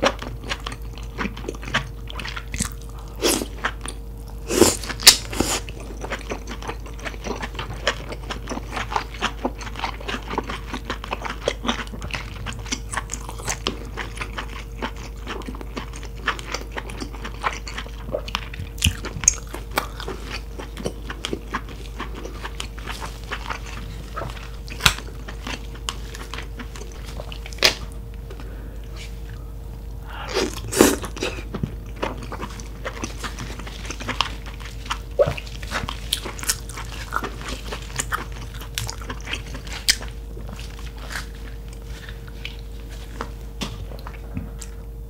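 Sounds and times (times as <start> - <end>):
close-miked chewing: 0.0 - 45.0.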